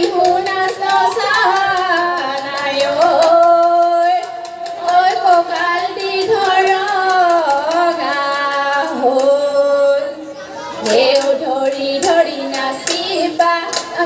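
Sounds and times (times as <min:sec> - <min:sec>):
women singing through pa: 0:00.0 - 0:14.0.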